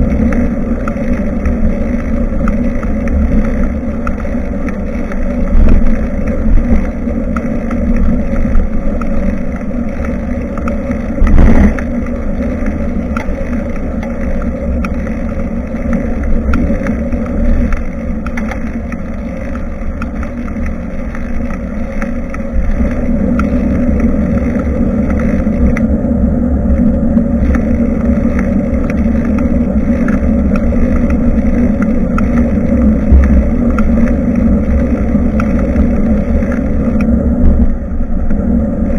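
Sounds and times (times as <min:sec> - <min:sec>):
tyre and road noise: 0:00.0 - 0:38.9
wind buffeting microphone: 0:00.0 - 0:38.9.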